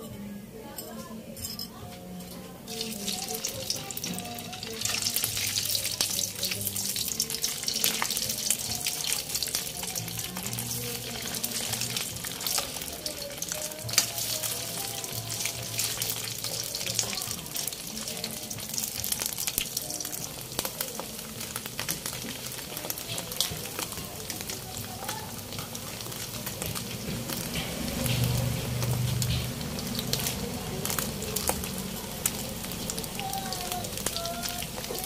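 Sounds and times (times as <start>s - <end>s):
meat sizzling in hot oil: 2.7s - 35.0s.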